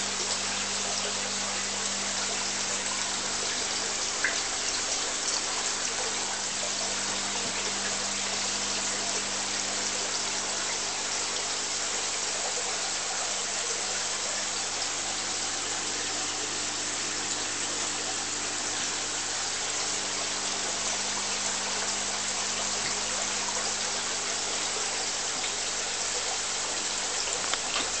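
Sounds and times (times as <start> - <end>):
bubbling trickling water: 0.0 - 28.0
low pump hum: 0.0 - 28.0.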